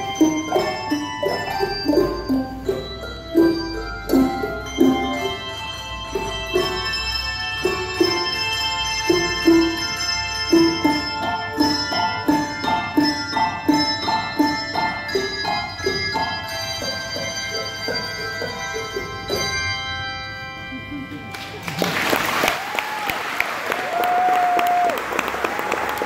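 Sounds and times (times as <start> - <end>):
handbell choir playing: 0.0 - 21.7.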